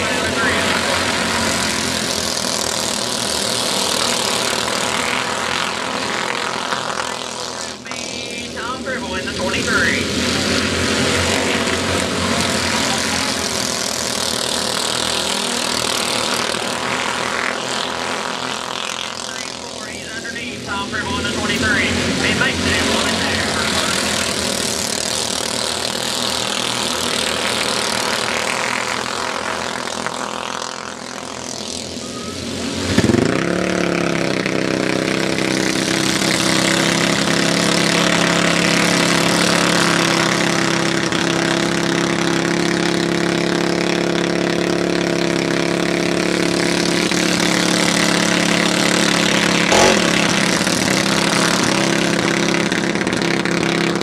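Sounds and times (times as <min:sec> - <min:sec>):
kart engines racing: 0:00.0 - 0:54.0.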